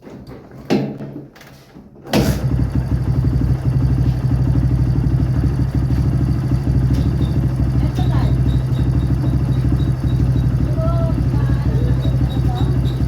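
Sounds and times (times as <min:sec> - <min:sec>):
motorcycle engine starting and idling: 0:02.0 - 0:13.0.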